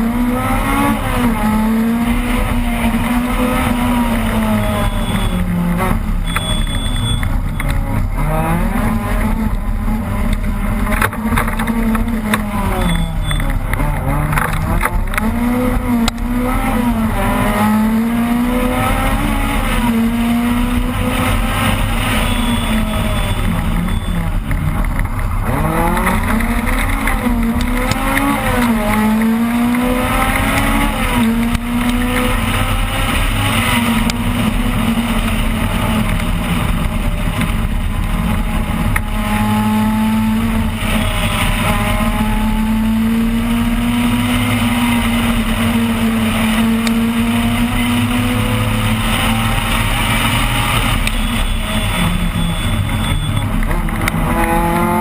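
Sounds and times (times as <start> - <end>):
rally car engine accelerating: 0.0 - 55.0.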